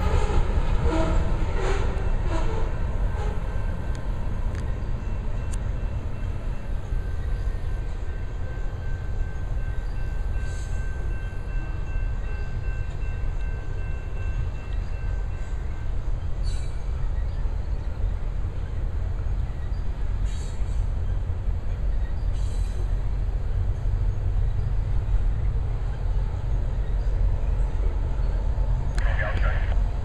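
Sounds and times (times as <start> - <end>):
freight train rumbling on bridge: 0.0 - 30.0.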